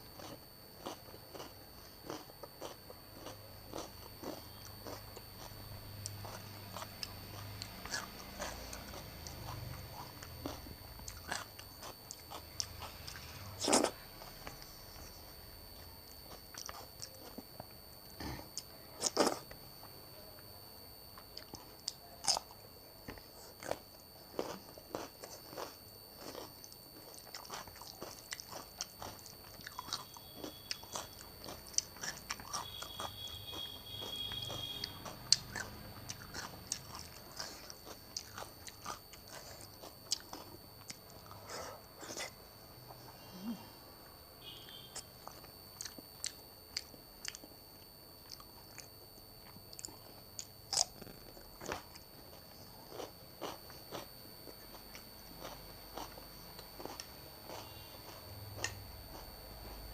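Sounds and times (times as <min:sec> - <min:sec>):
person chewing food: 0:00.0 - 0:20.0, 0:21.2 - 0:43.6, 0:44.9 - 0:59.9
faint high-pitched whine: 0:00.0 - 0:59.9.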